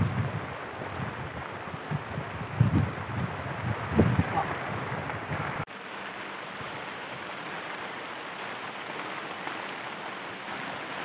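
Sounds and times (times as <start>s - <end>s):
heavy rain on water: 0.0s - 11.0s.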